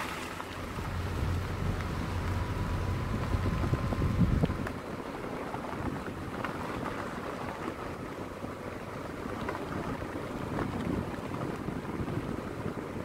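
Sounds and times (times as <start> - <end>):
tyre and road rumble: 0.0 - 13.0
wind on microphone: 0.0 - 13.0.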